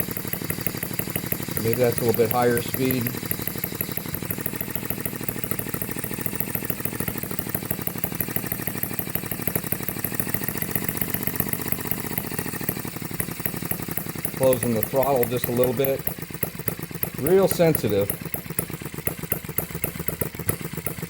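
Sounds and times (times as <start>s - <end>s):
model gas engine clattering: 0.0s - 21.0s.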